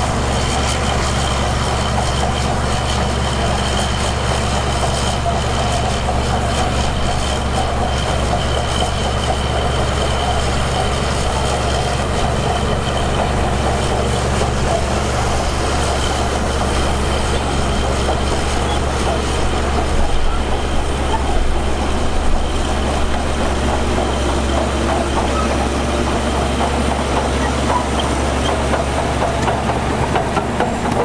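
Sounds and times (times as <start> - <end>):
heavy diesel machinery droning: 0.0 - 31.0.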